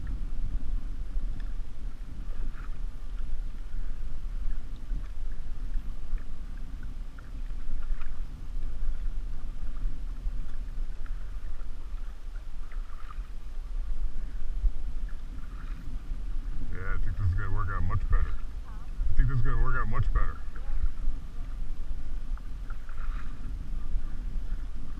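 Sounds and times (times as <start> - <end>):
low rumble: 0.0 - 24.9
water splashing against canoe: 0.0 - 24.9.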